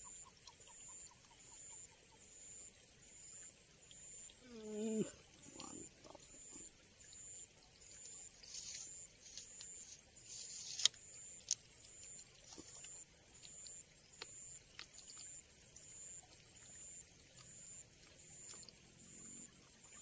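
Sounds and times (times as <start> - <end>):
faint ticks: 3.3 - 19.5.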